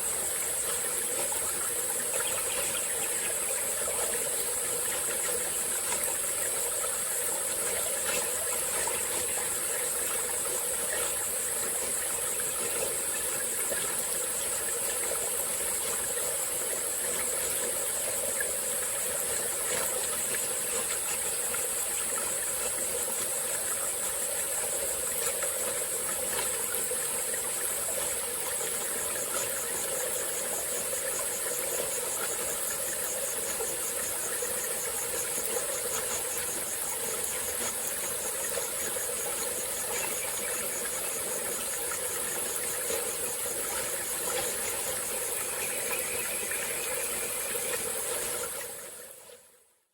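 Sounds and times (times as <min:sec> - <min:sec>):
high-pitched insect chorus: 0:00.0 - 0:49.4
rapidly pulsing insect trill: 0:00.0 - 0:49.4
small stream flowing: 0:00.0 - 0:49.9.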